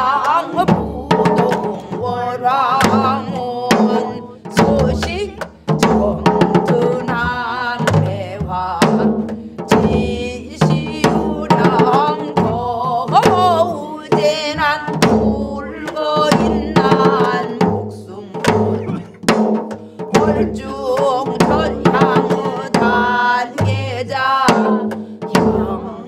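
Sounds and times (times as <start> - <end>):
voices singing with vibrato: 0.0 - 26.0.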